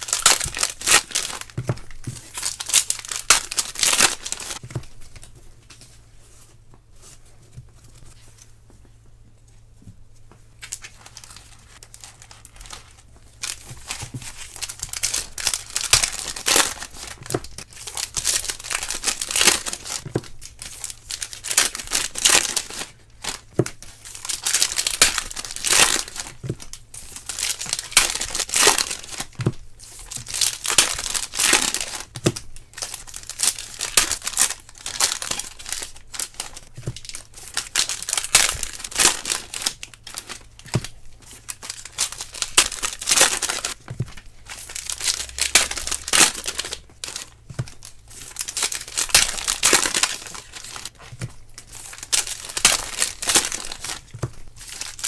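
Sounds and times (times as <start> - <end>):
foil wrappers crinkling and tearing: 0.0 - 5.8, 10.6 - 55.0.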